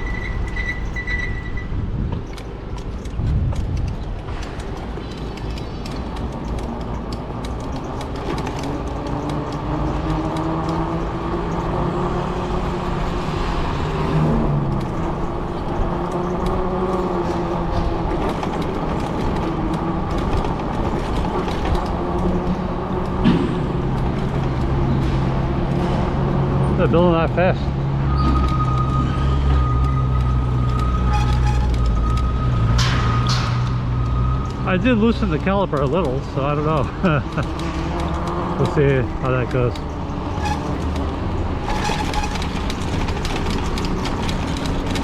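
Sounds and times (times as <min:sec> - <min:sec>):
road rumble: 0:00.0 - 0:45.0
vehicle hum: 0:00.0 - 0:45.0.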